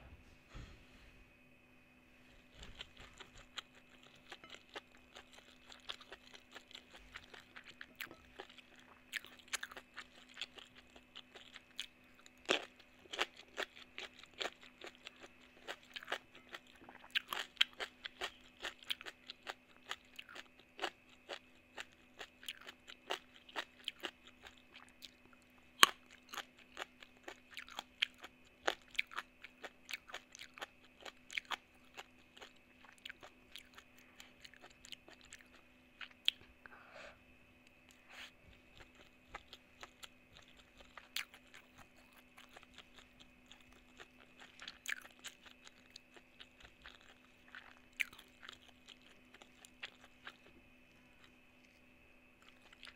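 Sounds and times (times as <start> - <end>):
faint steady hum: 0.0 - 52.9
crunching and chewing vegetables: 2.2 - 36.7, 37.5 - 52.9.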